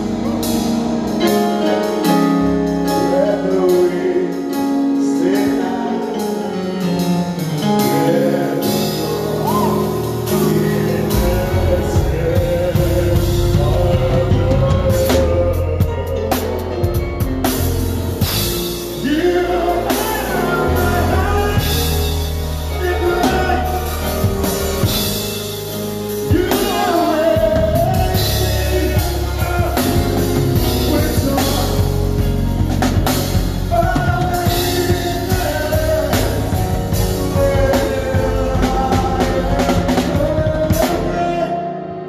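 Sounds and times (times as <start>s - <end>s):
bass: 0.0s - 41.6s
drum kit: 0.0s - 42.0s
guitar: 0.0s - 42.0s
person singing: 1.2s - 42.0s.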